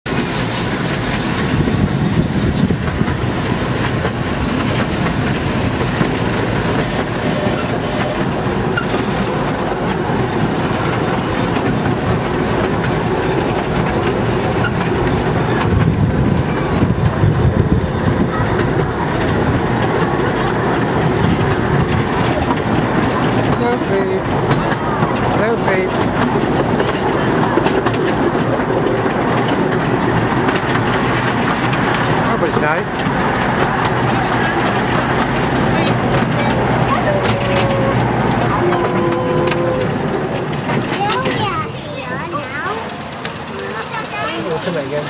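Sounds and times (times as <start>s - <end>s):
small train carriages rattling: 0.1s - 45.0s.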